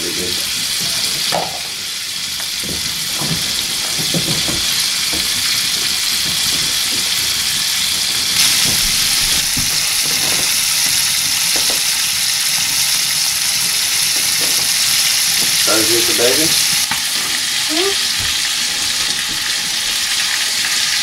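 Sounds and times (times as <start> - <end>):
meat sizzling in a skillet: 0.0 - 21.0.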